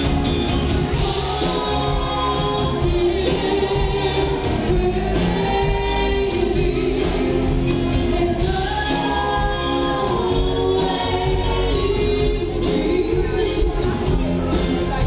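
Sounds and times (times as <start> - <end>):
folk band playing live: 0.0 - 15.0
steady drum beat: 0.0 - 15.0
person singing: 1.0 - 15.0.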